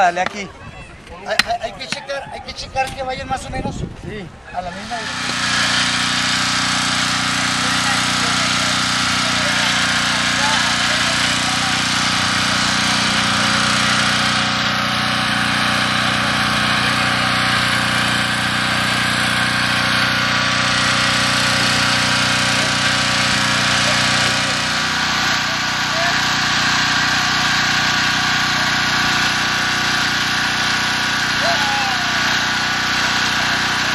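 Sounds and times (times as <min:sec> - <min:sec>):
portable generator engine humming: 0:04.6 - 0:33.9.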